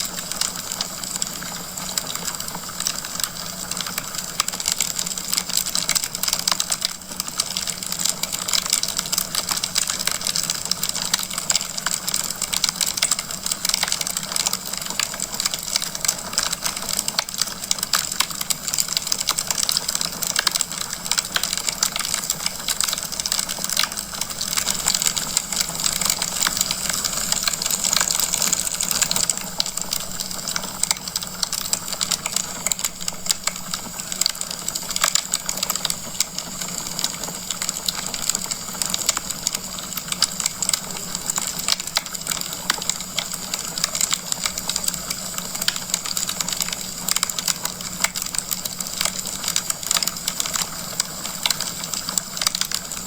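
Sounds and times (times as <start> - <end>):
wood fire crackling: 0.0 - 53.0
steady hiss: 9.5 - 53.0.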